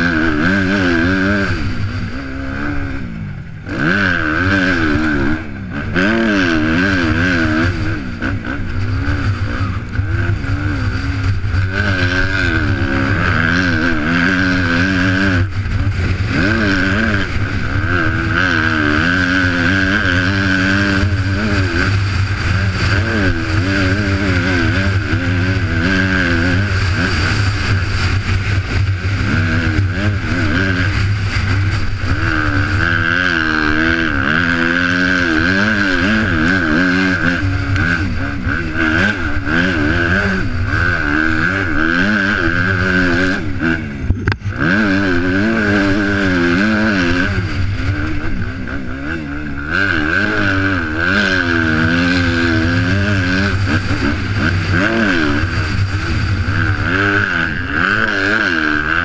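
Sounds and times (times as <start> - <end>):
motocross engine revving: 0.0 - 59.0
wind noise on microphone: 0.0 - 59.0.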